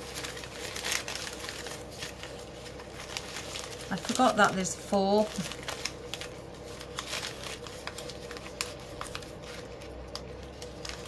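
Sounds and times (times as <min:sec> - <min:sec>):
ribbon crinkling and rustling: 0:00.0 - 0:11.0.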